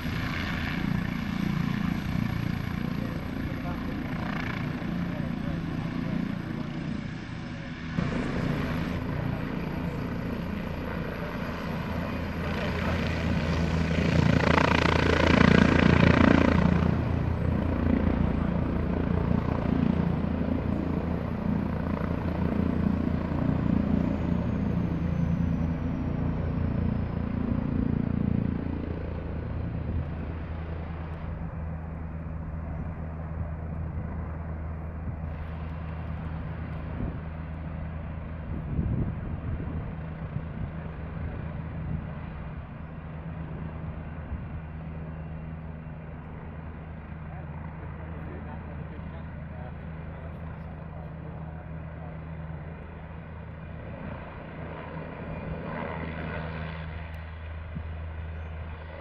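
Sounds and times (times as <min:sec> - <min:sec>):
helicopter rotor beat: 0:00.0 - 0:59.0
helicopter turbine whine: 0:00.0 - 0:59.0.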